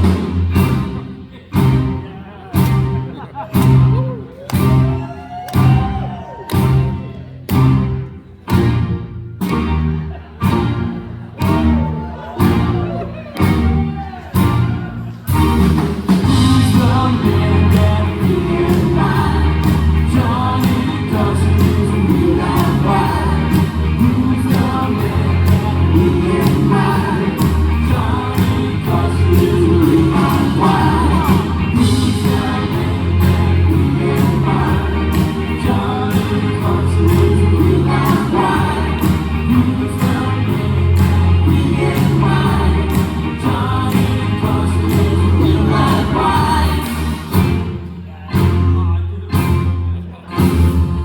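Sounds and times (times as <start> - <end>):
pop-rock band playing: 0.0 - 51.0.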